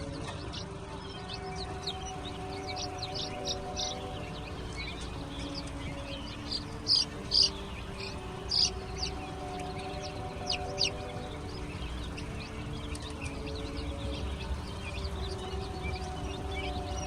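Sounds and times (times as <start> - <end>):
baby chicks peeping: 0.0 - 17.0
steady low hum: 1.2 - 17.0.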